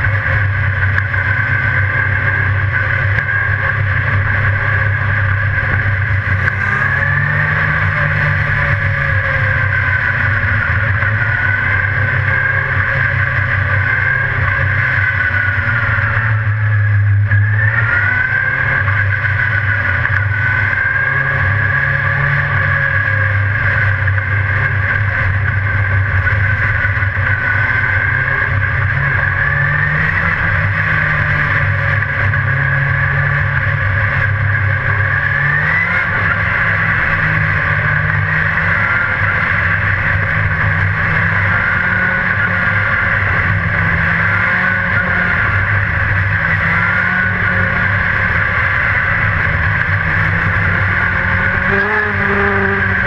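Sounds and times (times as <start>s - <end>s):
race car engine: 0.0s - 53.0s.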